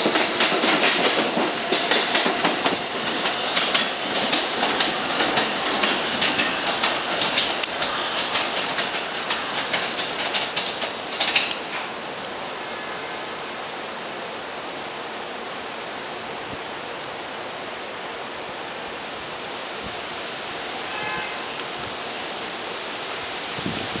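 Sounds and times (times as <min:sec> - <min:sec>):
outdoor background hiss: 0:04.4 - 0:24.0.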